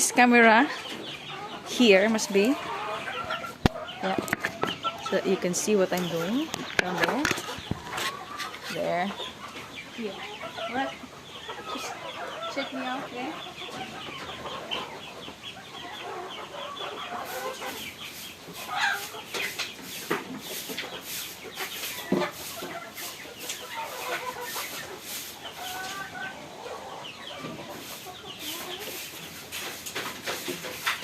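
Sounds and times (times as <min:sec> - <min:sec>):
chickens clucking: 0:00.0 - 0:31.0.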